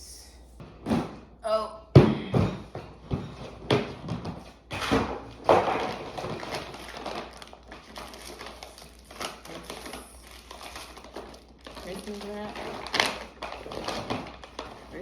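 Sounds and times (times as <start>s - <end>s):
knocks and clatters of items: 0.6s - 1.3s, 1.9s - 10.0s, 10.6s - 15.0s
rustling and handling: 2.7s - 15.0s.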